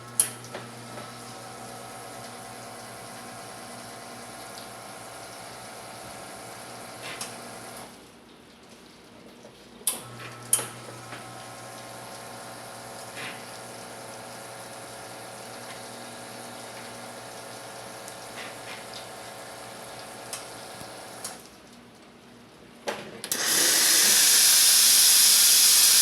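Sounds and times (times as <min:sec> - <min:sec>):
espresso machine pump hum: 0:00.0 - 0:07.8, 0:10.0 - 0:21.2, 0:23.3 - 0:26.0.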